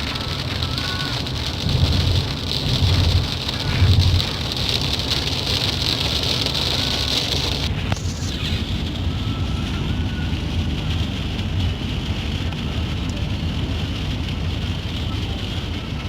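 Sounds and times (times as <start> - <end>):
low vehicle rumble: 0.0 - 16.0
rain hiss: 0.0 - 16.0.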